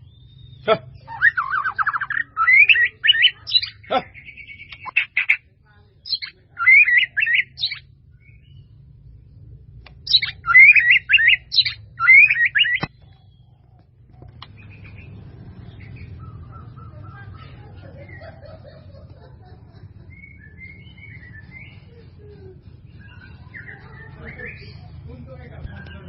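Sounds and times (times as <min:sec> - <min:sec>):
bird singing warbling phrases: 0:00.0 - 0:26.0.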